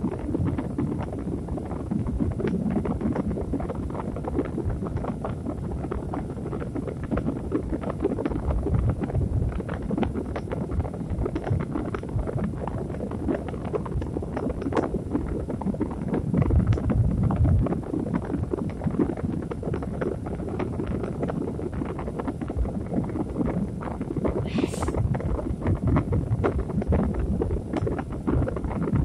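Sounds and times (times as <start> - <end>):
low rumbling noise with crackling: 0.0 - 29.0.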